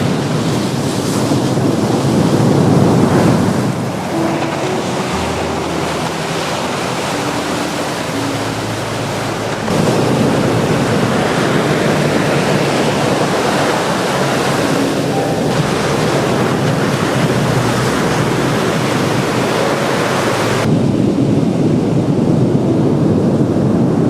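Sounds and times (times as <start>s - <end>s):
surf: 0.0s - 20.7s
rain: 0.0s - 24.0s.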